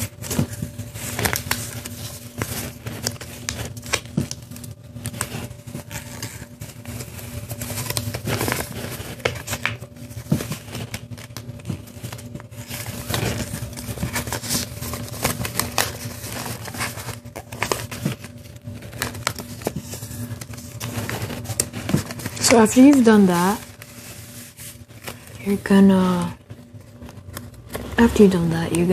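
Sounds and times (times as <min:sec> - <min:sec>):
paper being folded: 0:00.0 - 0:28.9.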